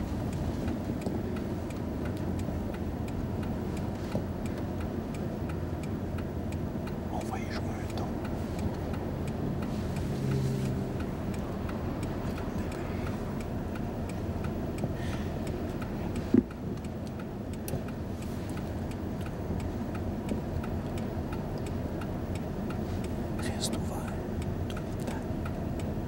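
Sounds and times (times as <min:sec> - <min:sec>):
car engine and road noise: 0:00.0 - 0:26.0
regular ticking: 0:00.0 - 0:26.0.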